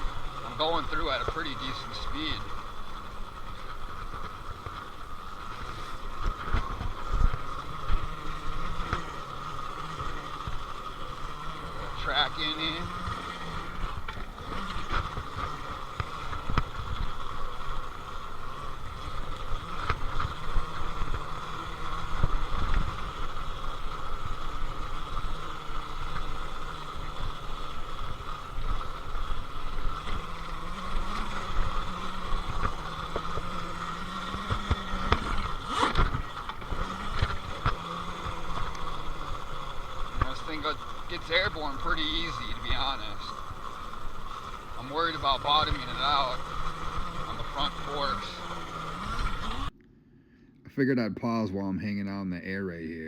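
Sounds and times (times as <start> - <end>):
electric motor whine: 0.0 - 49.8.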